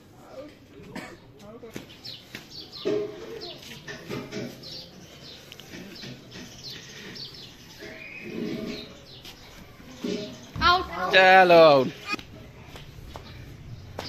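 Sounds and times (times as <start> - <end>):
small birds chirping: 1.2 - 14.0.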